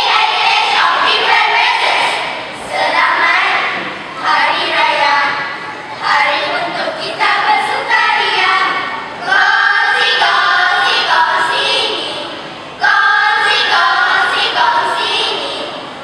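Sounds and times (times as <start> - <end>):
children chanting in unison: 0.0 - 15.9.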